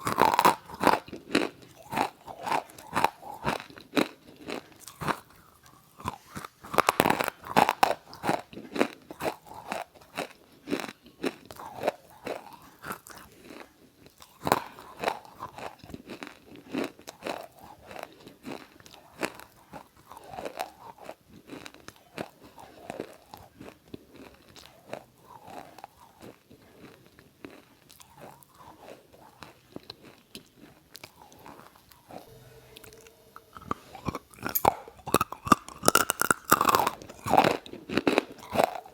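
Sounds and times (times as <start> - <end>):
crunching and chewing: 0.0 - 38.9.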